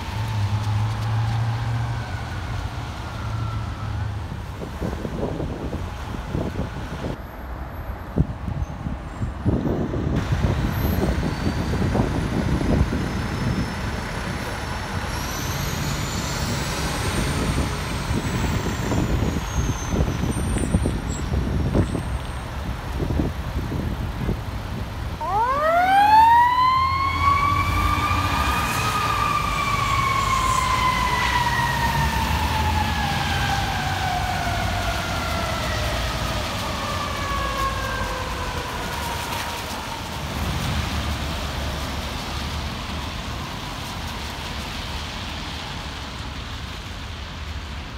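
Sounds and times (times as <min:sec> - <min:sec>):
fire truck siren: 0:00.0 - 0:07.2, 0:10.2 - 0:22.2, 0:25.1 - 0:45.9
diesel truck engine rumble: 0:00.0 - 0:47.9.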